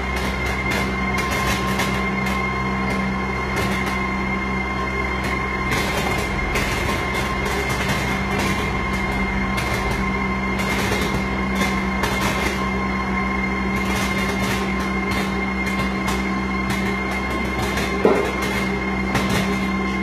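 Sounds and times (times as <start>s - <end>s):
machine hum with high whine: 0.0s - 20.0s.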